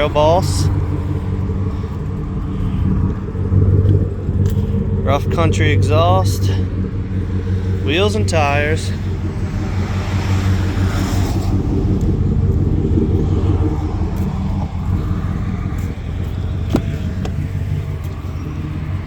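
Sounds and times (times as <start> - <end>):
pickup truck engine idling: 0.0 - 19.0.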